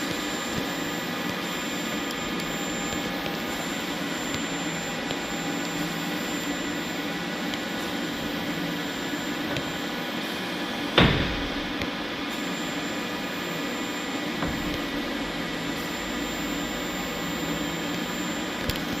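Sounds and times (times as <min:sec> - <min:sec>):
lathe humming with high whine: 0:00.0 - 0:19.0.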